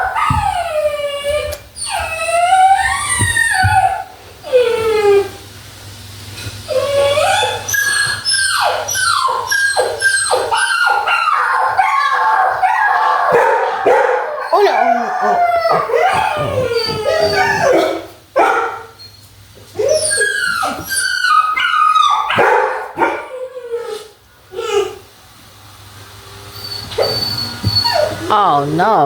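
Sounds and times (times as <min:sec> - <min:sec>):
puppies crying and whining: 0:00.0 - 0:05.6, 0:06.3 - 0:25.2, 0:26.4 - 0:28.6.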